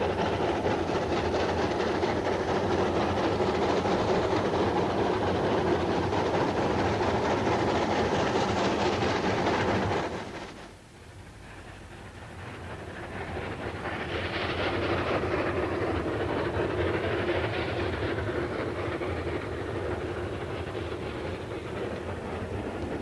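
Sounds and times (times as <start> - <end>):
steam train rushing by: 0.0 - 23.0.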